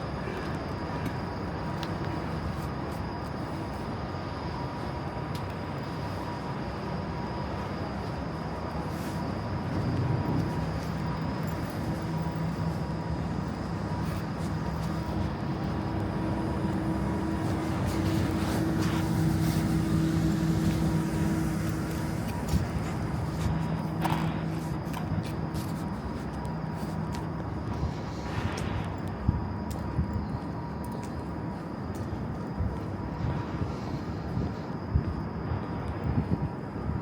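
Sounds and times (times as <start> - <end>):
city mechanical drone: 0.0 - 37.0
low hum: 0.0 - 37.0.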